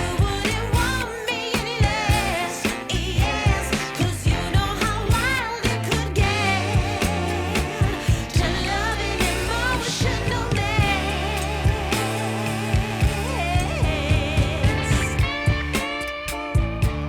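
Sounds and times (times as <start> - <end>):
pop music with singing: 0.0 - 17.0.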